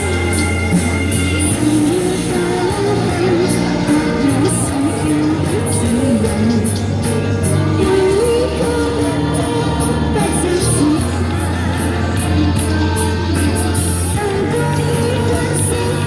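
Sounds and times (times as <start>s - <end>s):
backing track with beat and bass: 0.0s - 16.0s
person singing pop song: 0.0s - 16.0s.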